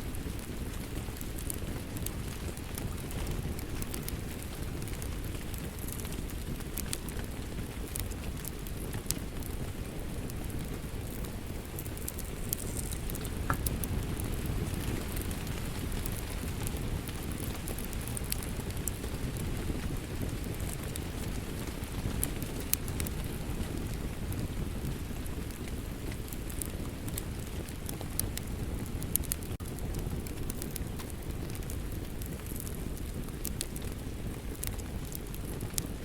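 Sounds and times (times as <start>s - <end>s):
steady rain: 0.0s - 36.0s
wood fire crackling: 0.0s - 36.0s.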